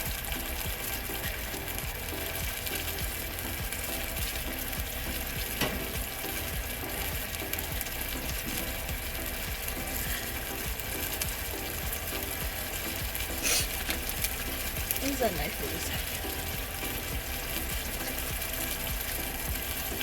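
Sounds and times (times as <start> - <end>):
butter sizzling in a pan: 0.0 - 20.0.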